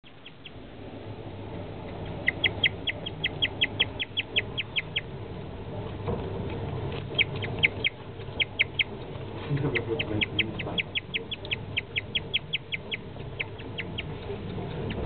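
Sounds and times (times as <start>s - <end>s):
guinea pig chirping: 0.0s - 0.7s, 1.7s - 15.0s.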